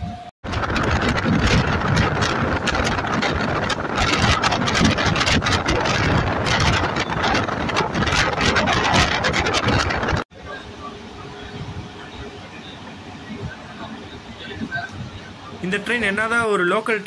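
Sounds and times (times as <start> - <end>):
electric train rumbling and rattling: 0.0 - 17.0.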